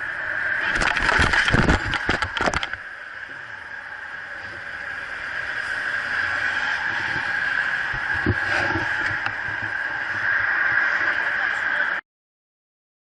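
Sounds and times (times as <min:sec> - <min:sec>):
car running noise: 0:00.0 - 0:12.0.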